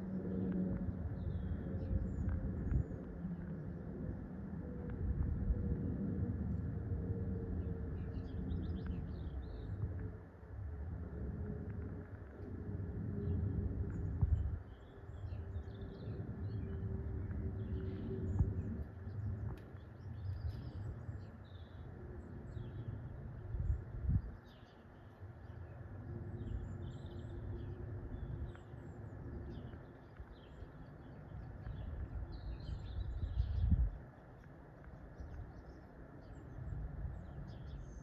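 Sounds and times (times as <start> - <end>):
faint steady hum: 0.0 - 38.0
low uneven rumble: 0.0 - 38.0.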